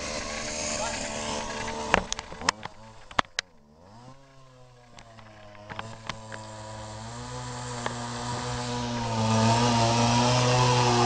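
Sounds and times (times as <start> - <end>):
chainsaw engine running: 0.0 - 11.0.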